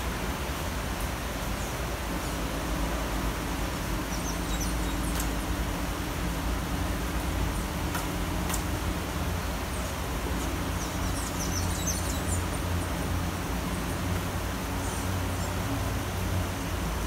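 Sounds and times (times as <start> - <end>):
low constant rumble: 0.0 - 17.0
rain hiss: 0.0 - 17.0.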